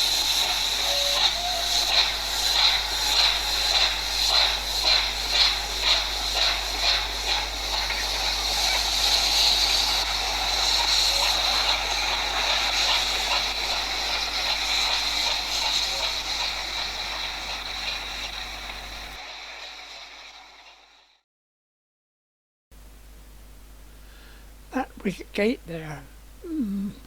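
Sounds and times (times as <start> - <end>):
steady outdoor rushing hiss: 0.0 - 21.1, 22.8 - 27.0.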